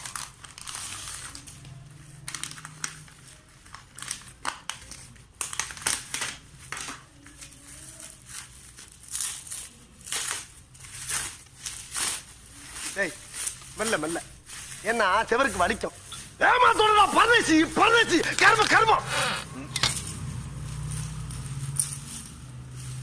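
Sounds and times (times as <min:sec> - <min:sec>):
packaging crinkling: 0:00.0 - 0:19.3.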